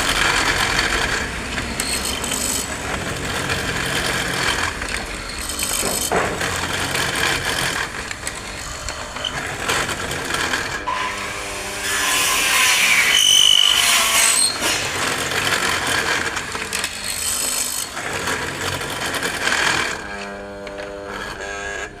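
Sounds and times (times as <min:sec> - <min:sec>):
tool scraping and grinding wood: 0:00.0 - 0:22.0.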